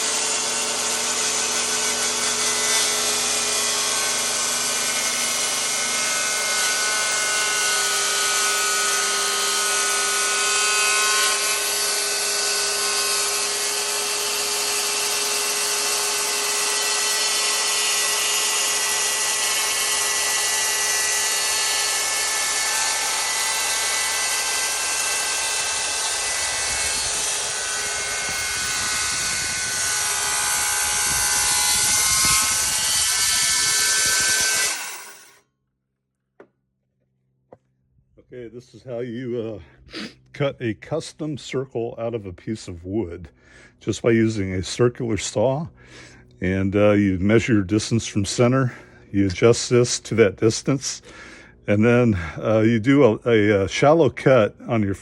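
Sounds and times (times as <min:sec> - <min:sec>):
circular saw cutting wood: 0:00.0 - 0:35.4, 0:38.8 - 0:55.0.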